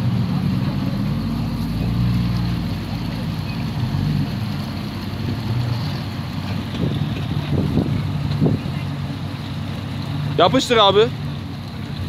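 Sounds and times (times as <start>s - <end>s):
car engine under throttle: 0.0s - 12.0s.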